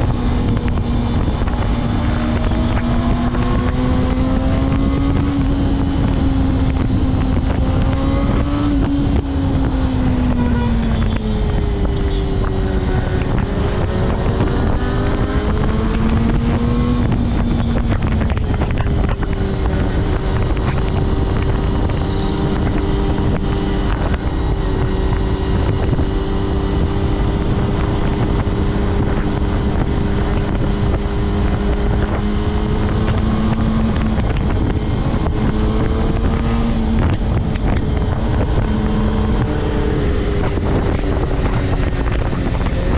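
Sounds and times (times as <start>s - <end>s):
motorcycle engine running: 0.0s - 42.9s
wind rush on microphone: 0.0s - 42.9s.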